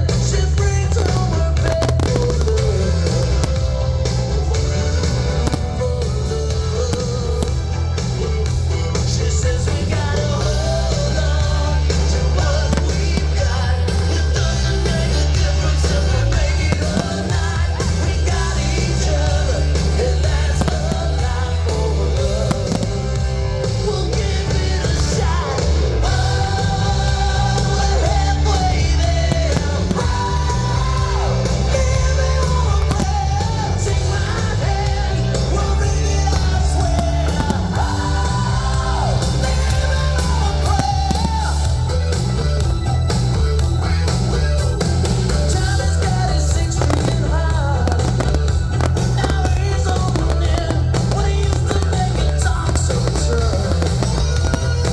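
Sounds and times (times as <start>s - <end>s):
rock music with singing: 0.0s - 54.9s.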